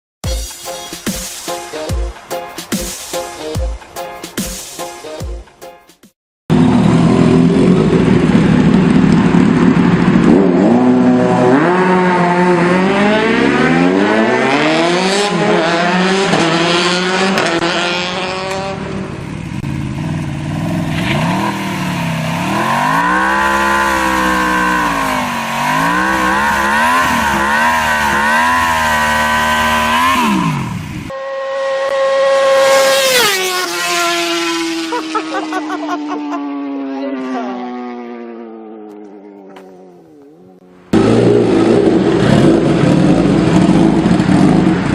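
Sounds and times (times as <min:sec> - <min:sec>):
motorcycle engines revving: 0:06.5 - 0:44.9
motorcycle passing by: 0:06.5 - 0:44.9.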